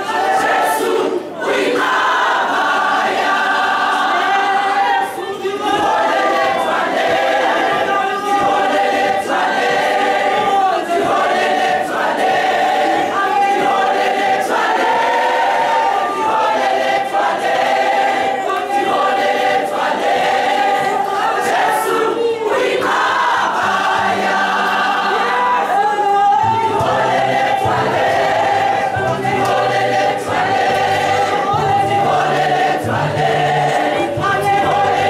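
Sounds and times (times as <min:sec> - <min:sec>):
women's choir singing: 0:00.0 - 0:35.0.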